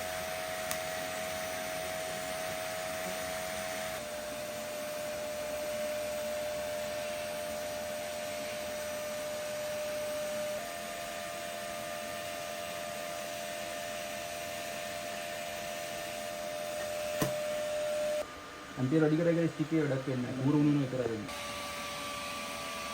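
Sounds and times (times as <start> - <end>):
welding arc hissing and whining: 0.0 - 22.9.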